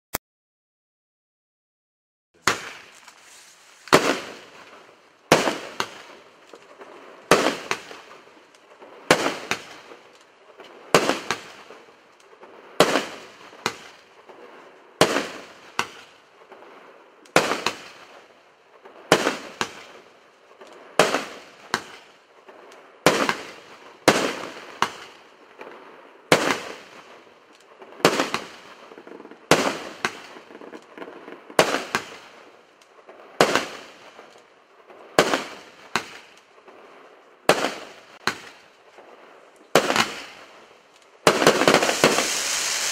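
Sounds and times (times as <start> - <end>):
fireworks bangs: 2.4 - 42.9.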